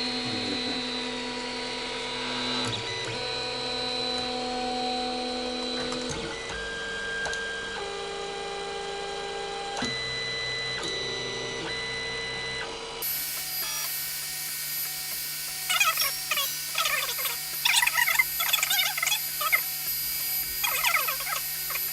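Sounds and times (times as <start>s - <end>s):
printer stepper motors whining: 0.0s - 21.9s.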